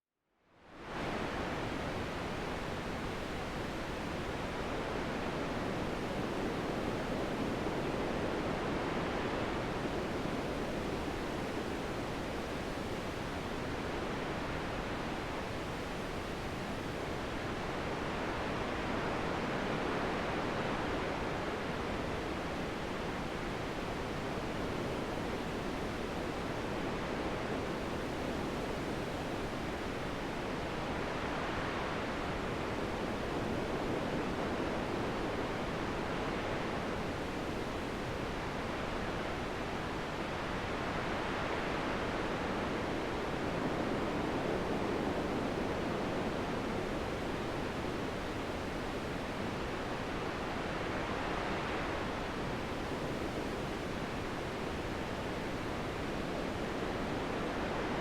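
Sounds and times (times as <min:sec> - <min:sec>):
wind noise: 0:00.6 - 0:58.0.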